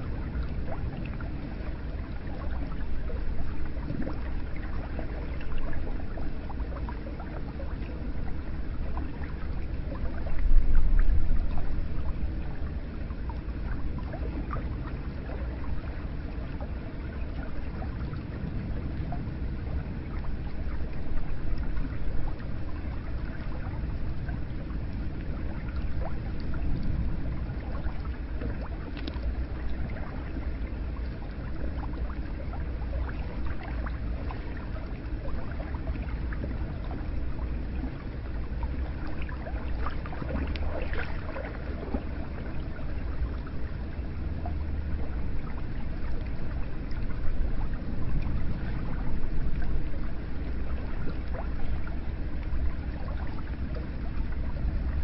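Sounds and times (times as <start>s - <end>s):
water flowing and splashing: 0.0s - 55.0s.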